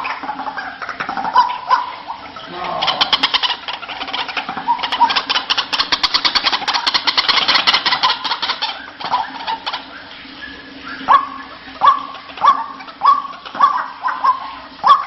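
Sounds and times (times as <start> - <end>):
waterhen harsh repeated calls: 0.0 - 15.0.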